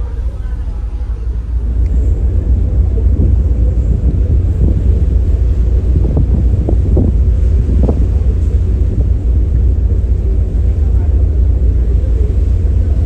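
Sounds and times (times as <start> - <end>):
faint voices murmuring: 0.0 - 13.0
ship low rumble: 0.0 - 13.0.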